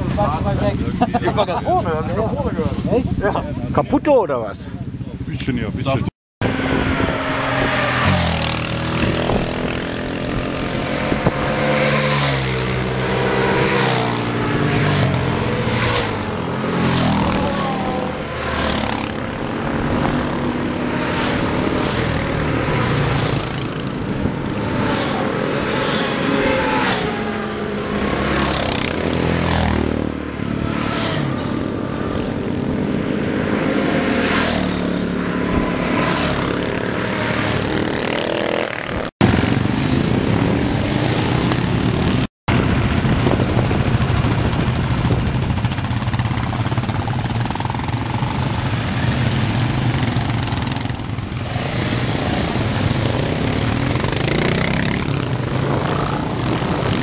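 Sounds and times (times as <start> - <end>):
many quad engines running: 0.0 - 57.0
quad engines passing by: 0.0 - 57.0.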